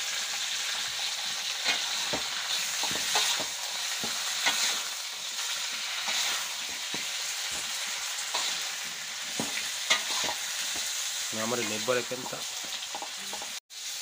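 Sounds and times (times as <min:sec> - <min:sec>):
fish sizzling in oil: 0:00.0 - 0:14.0
spatula scraping a pan: 0:00.7 - 0:13.6.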